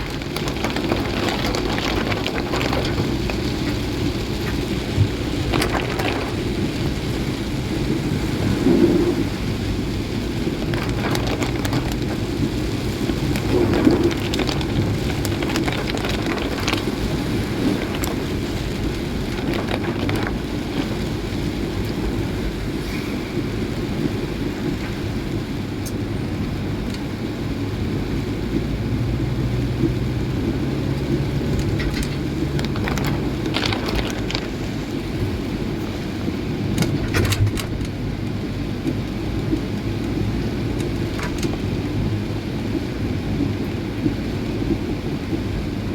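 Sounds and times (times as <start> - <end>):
low engine hum: 0.0 - 45.9
rain and road noise: 0.0 - 45.9.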